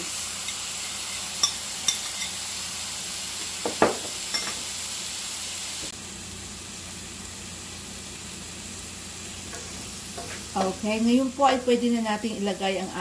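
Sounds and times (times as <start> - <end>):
meat and onions sizzling in oil: 0.0 - 13.0.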